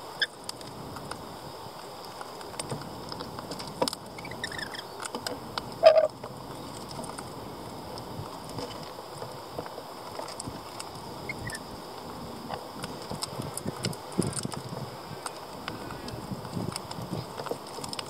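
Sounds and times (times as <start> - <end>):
beaks clicking on seeds and wood: 0.1 - 18.0.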